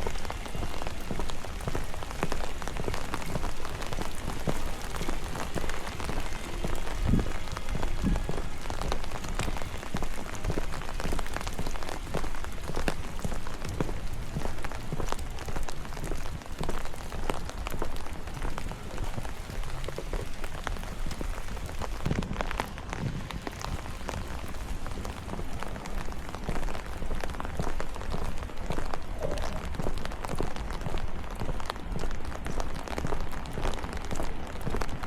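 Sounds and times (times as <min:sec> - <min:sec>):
raindrops ticking on surfaces: 0:00.0 - 0:35.0.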